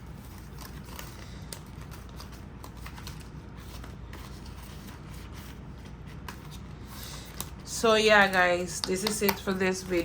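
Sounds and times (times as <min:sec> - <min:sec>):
paper banknotes rustling: 0:00.0 - 0:08.3.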